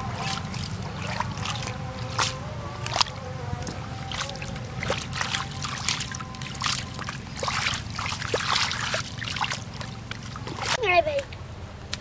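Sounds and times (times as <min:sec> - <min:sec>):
hands splashing in muddy water: 0:00.0 - 0:10.8
steady low rumble: 0:00.0 - 0:12.0.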